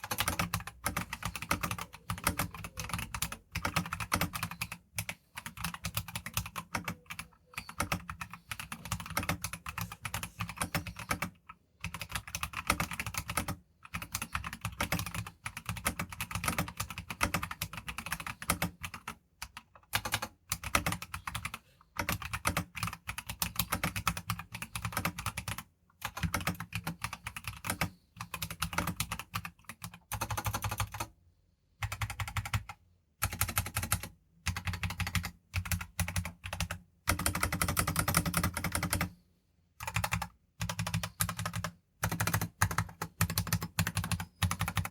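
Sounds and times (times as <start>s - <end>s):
mechanical keyboard typing: 0.0s - 31.1s, 31.8s - 39.2s, 39.8s - 44.9s.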